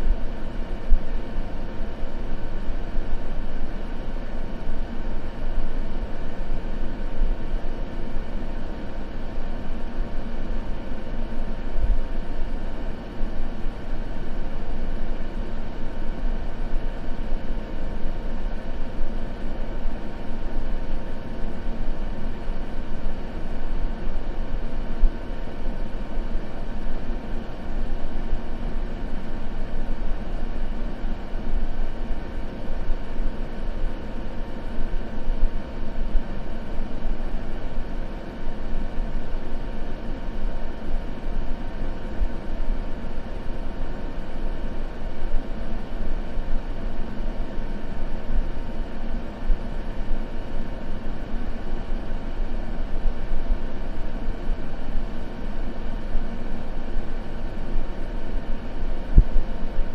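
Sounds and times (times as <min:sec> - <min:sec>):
deep white noise hiss: 0:00.0 - 0:59.9
faint steady hum: 0:00.0 - 0:59.9.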